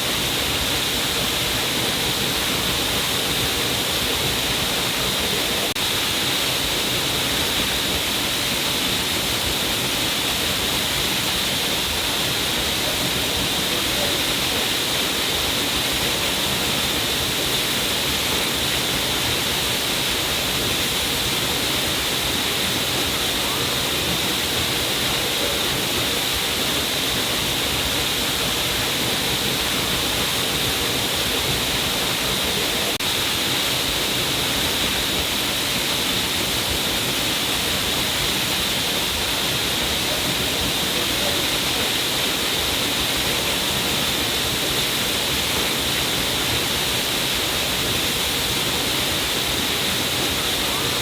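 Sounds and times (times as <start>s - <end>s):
water falling down cliff: 0.0s - 51.0s.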